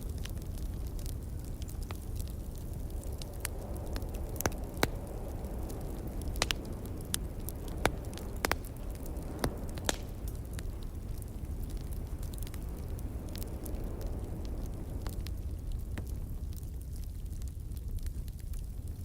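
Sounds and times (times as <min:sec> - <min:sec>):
fireplace logs crackling: 0:00.0 - 0:19.0
low rumble of wind: 0:00.0 - 0:19.0.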